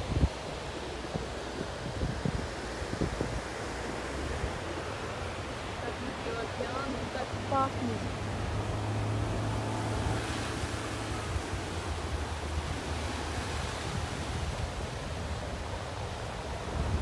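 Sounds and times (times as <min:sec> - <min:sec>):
surf washing up a beach: 0:00.0 - 0:17.0
wind rumble on microphone: 0:00.0 - 0:17.0.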